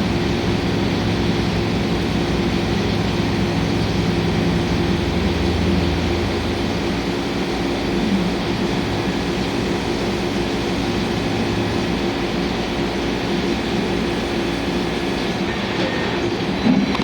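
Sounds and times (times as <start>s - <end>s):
milling machine spindle hum: 0.0s - 17.0s.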